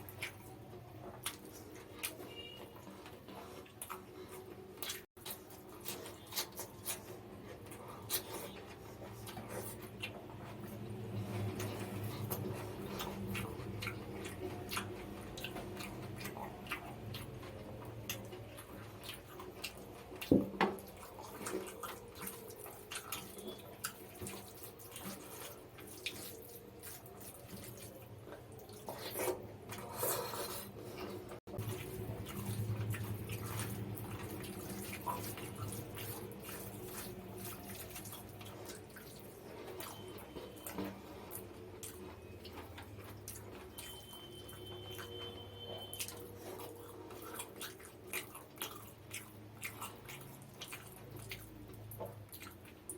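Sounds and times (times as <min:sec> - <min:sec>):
wet chewing and lip smacks: 0:00.0 - 0:52.9.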